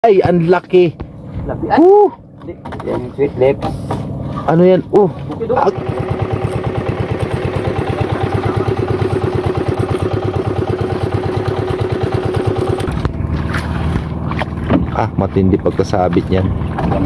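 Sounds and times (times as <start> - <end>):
steady hum: 0.1 - 17.0
boat engine chugging: 0.8 - 17.0.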